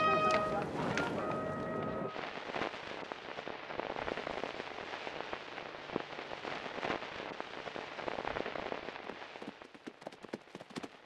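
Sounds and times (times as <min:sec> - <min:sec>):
crackling clicks over hiss: 0:00.0 - 0:11.0.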